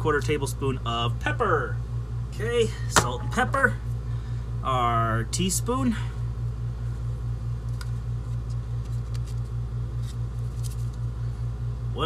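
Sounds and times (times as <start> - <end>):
low throbbing mechanical hum: 0.0 - 12.0.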